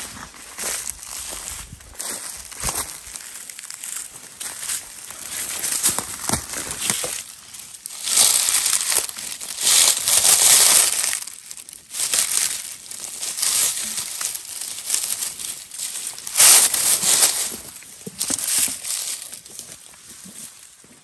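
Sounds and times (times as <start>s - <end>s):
footsteps crunching through dry leaves: 0.0s - 21.0s.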